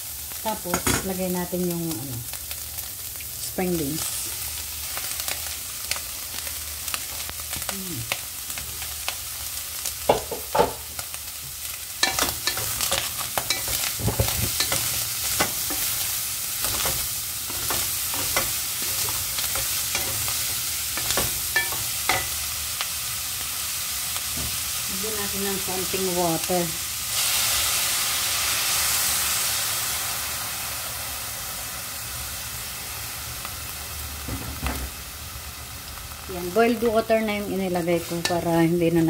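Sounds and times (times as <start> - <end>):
bacon and beans sizzling in a pan: 0.0 - 39.0.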